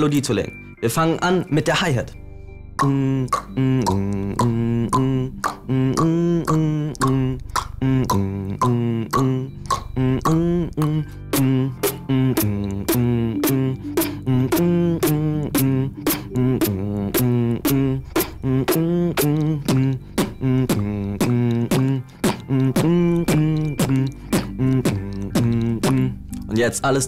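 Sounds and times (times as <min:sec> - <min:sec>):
hummed melody: 0:00.3 - 0:27.0
vocal percussion clicks: 0:02.8 - 0:26.6.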